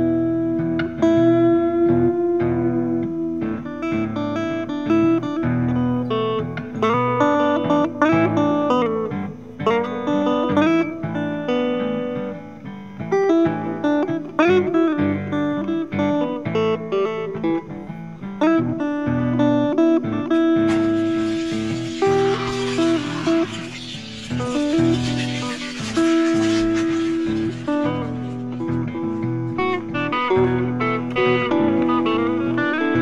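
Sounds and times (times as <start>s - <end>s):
guitar melody: 0.0s - 33.0s.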